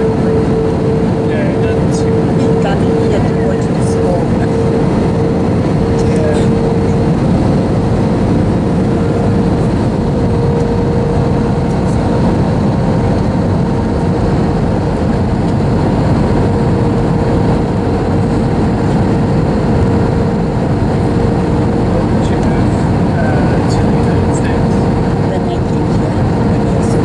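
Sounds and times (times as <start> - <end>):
aircraft cabin engine roar: 0.0 - 27.0
steady hum: 0.0 - 27.0.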